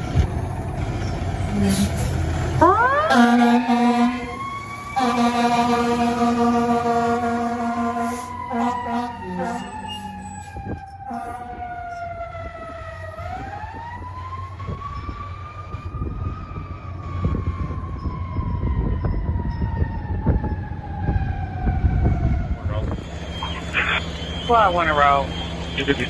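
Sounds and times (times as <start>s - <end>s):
fire truck siren wailing: 0.0s - 26.0s
truck engine rumble: 0.0s - 26.0s.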